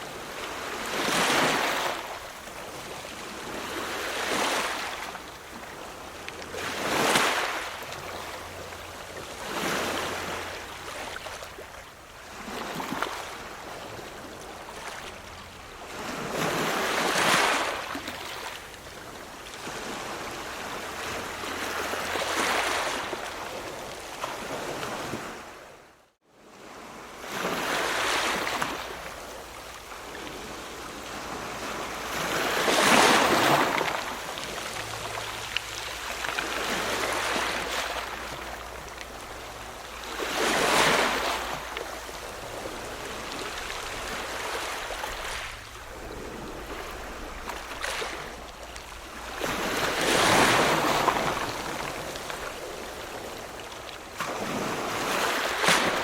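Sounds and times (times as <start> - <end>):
ocean waves breaking: 0.0 - 25.7, 26.5 - 56.0.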